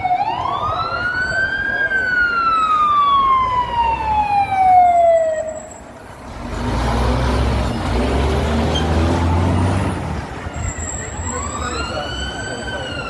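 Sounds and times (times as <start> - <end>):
fire truck siren wail: 0.0 - 6.2, 8.4 - 13.0
truck engine rumbling: 0.0 - 13.0.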